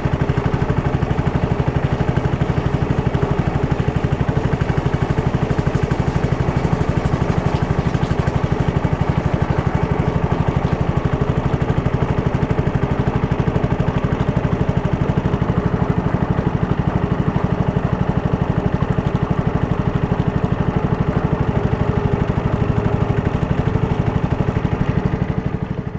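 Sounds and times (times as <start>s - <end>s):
small engine running: 0.0s - 25.9s.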